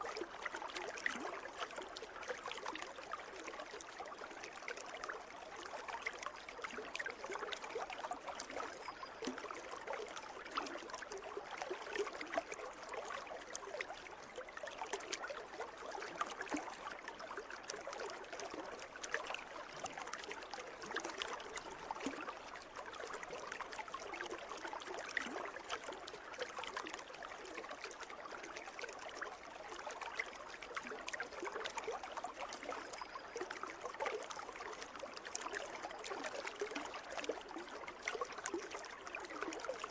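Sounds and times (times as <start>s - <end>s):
pool water trickling and splashing: 0.0s - 39.9s.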